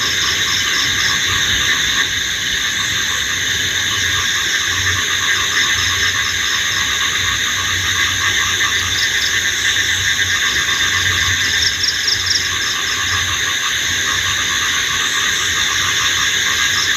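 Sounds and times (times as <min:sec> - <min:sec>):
crickets and insects trilling: 0:00.0 - 0:16.9.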